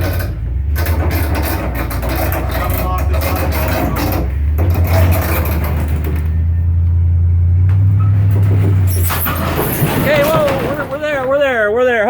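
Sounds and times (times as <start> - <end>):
car engine pulling under load: 0.0 - 12.0.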